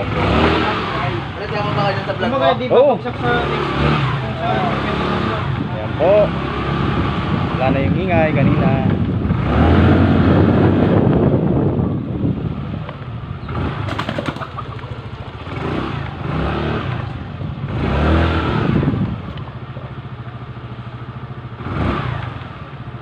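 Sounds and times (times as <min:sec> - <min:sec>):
scooter engine running and revving: 0:00.0 - 0:23.0.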